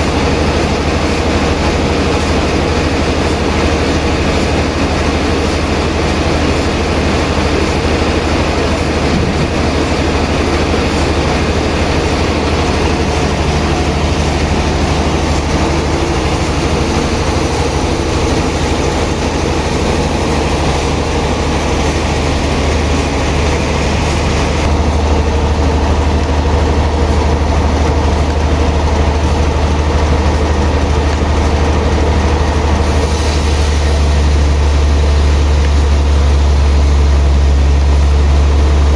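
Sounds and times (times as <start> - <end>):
higher machinery din: 0.0 - 38.9
sawmill machinery deep hum: 0.0 - 38.9.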